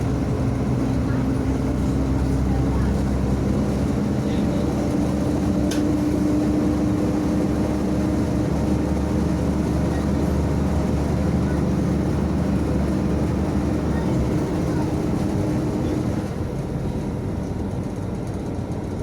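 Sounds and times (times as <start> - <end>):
bus engine and running gear rumble: 0.0 - 19.0.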